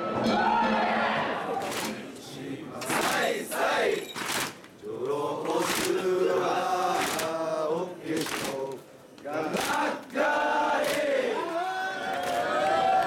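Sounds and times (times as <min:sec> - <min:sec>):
crowd chanting: 0:00.0 - 0:04.1, 0:04.8 - 0:13.0.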